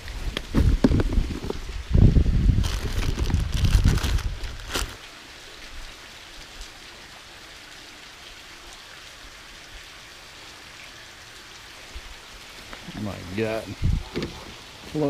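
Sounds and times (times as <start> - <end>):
running water hissing: 0.0 - 15.0.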